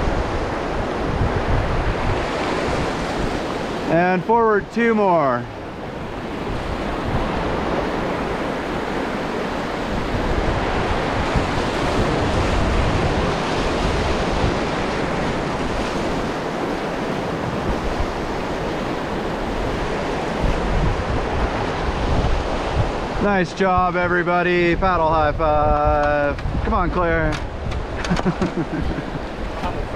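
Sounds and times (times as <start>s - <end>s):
whitewater rushing and splashing: 0.0s - 29.9s.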